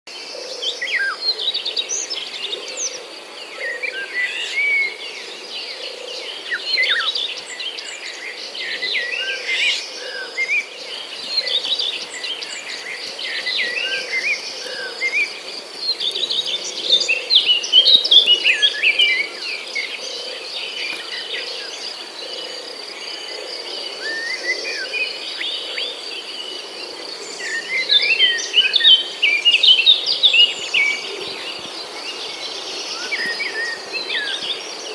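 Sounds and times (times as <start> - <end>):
birds chirping: 0.2 - 34.9
insect trill: 0.3 - 34.9.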